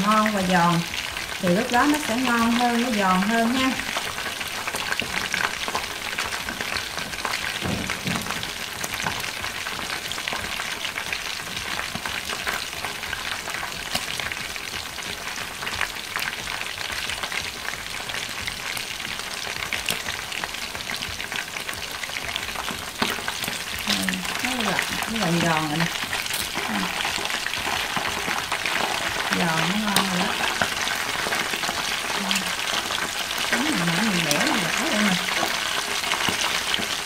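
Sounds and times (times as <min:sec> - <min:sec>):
chicken sizzling in hot oil: 0:00.0 - 0:37.0.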